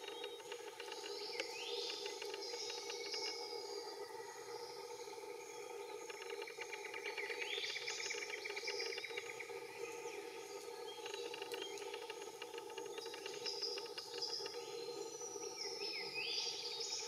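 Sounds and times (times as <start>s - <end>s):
low hum of background chorus: 0.0s - 17.0s.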